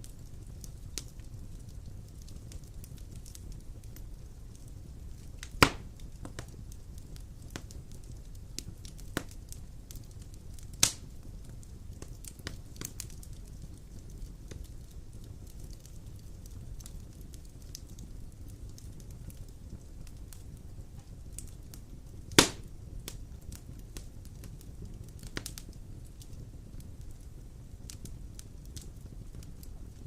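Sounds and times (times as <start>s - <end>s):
fire crackling: 0.0s - 30.0s
fire flames rumbling: 0.0s - 30.0s
loud fire pops: 0.0s - 30.0s.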